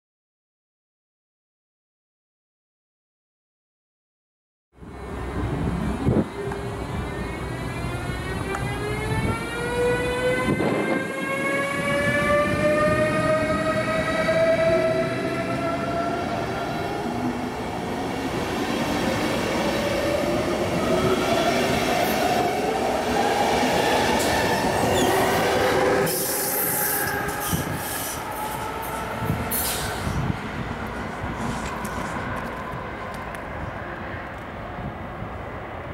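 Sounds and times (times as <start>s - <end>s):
electric locomotive drive whining: 4.8s - 35.6s
train coaches rolling on rails: 4.9s - 34.8s.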